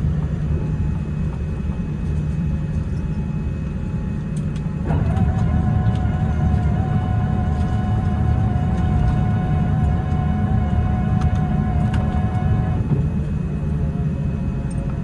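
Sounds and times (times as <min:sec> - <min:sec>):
aircraft cabin rumble: 0:00.0 - 0:15.0
steady high whine: 0:00.0 - 0:15.0.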